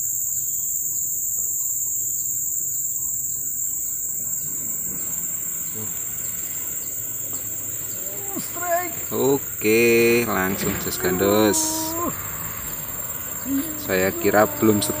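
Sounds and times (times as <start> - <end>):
faint chirp: 0.0 - 15.0
shrill insect drone: 0.0 - 15.0.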